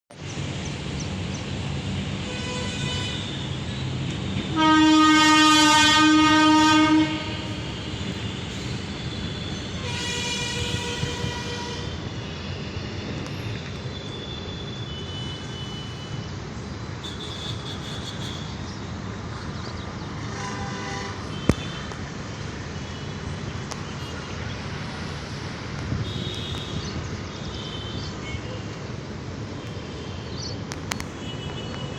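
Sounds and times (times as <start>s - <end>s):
moving train rumble: 0.2s - 31.9s.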